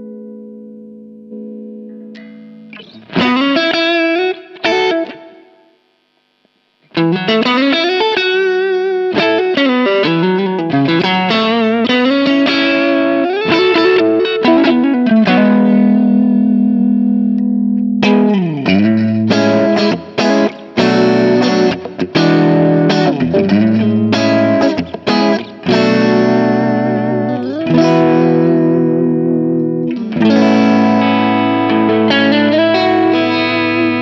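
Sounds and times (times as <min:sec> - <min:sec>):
distorted electric guitar lead: 0:00.0 - 0:34.0.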